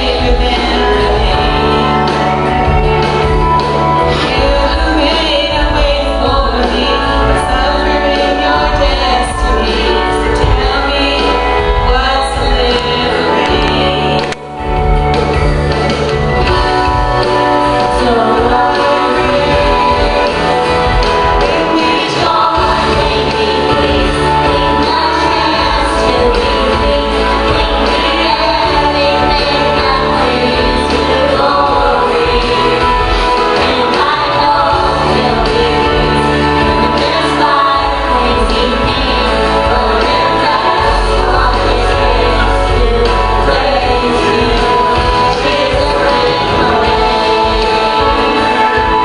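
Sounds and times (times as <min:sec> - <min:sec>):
boy and woman singing: 0:00.0 - 0:14.8, 0:16.4 - 0:49.0
instrumental accompaniment with bass: 0:00.0 - 0:49.0.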